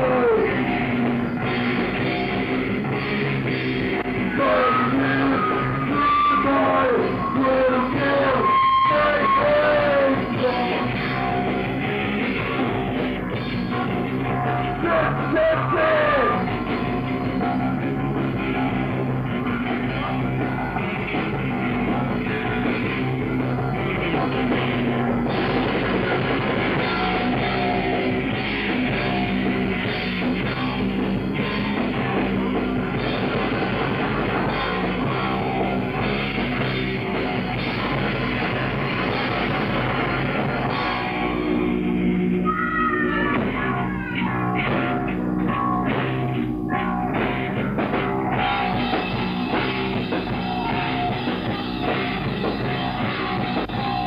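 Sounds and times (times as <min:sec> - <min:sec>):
punk band playing live: 0:00.0 - 0:54.0.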